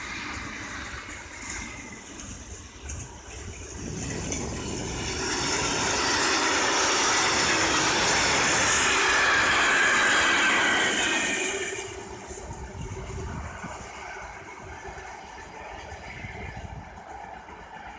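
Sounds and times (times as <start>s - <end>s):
train wheels rumbling over track: 0.0s - 17.9s.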